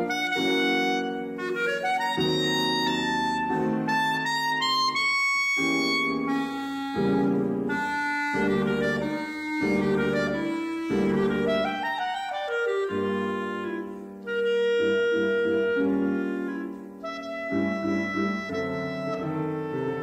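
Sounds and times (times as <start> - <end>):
clarinet melody: 0.0 - 20.0
piano chords: 0.0 - 20.0.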